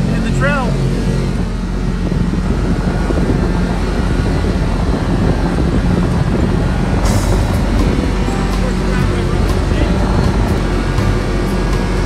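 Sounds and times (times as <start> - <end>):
vehicle engine drone: 0.0 - 12.0
wind on microphone: 0.9 - 12.0.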